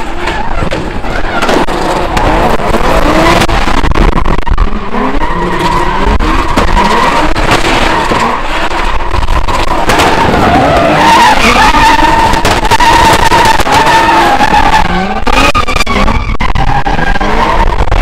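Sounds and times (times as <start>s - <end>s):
car engine revving: 0.0s - 18.0s
tyre squeal and screech: 0.0s - 18.0s.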